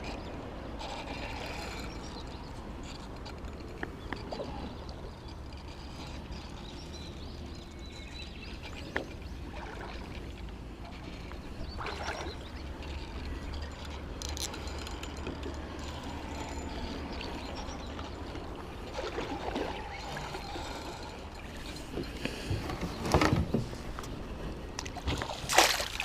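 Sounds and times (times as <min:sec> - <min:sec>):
water lapping and trickling: 0:00.0 - 0:26.0.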